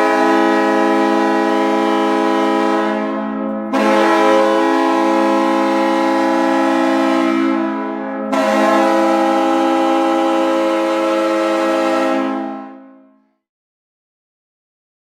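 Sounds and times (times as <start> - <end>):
air horn blasts: 0.0 - 13.2.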